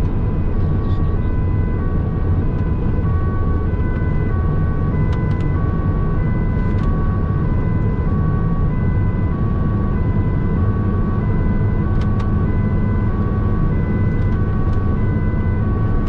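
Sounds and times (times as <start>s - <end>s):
road and engine noise: 0.0s - 16.0s
two-tone emergency siren: 0.0s - 16.0s.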